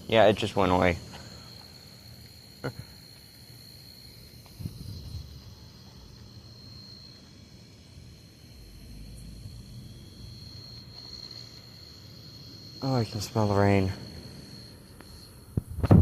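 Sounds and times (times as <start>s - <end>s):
insects trilling: 0.0s - 16.0s
low outdoor rumble: 0.0s - 16.0s.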